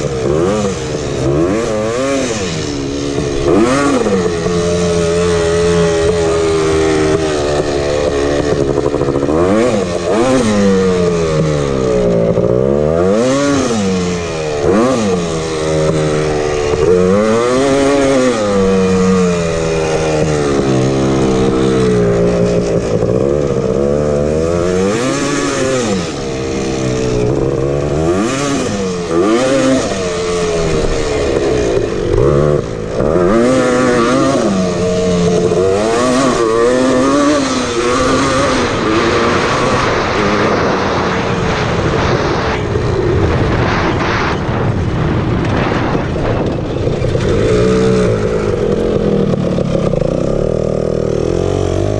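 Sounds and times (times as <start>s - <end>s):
two-stroke engine revving: 0.0s - 51.9s.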